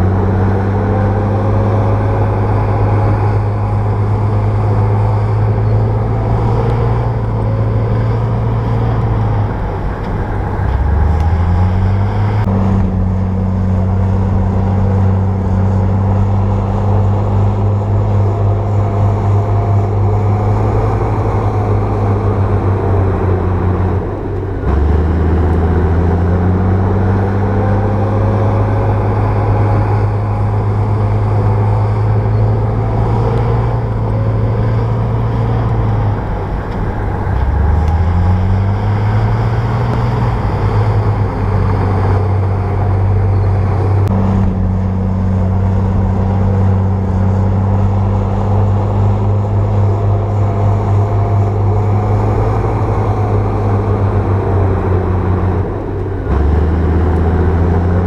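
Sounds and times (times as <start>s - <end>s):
bulldozer diesel engine revving: 0.0s - 58.0s.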